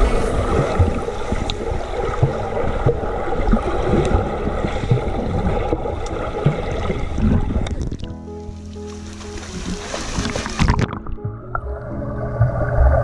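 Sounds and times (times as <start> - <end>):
underwater churning water: 0.0 - 8.1, 9.1 - 13.0.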